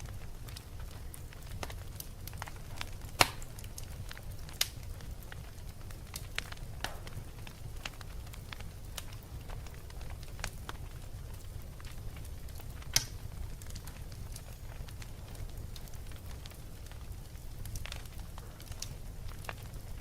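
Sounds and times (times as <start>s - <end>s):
fire popping and snapping: 0.0s - 20.0s
low rumble of flames: 0.0s - 20.0s.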